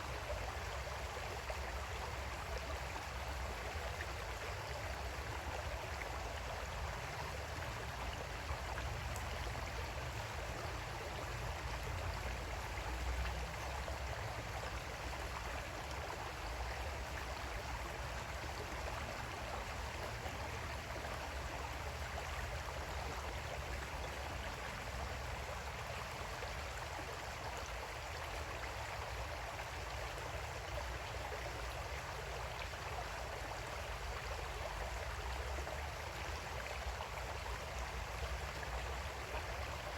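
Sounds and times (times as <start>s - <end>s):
creek water flowing over rocks: 0.0s - 39.9s.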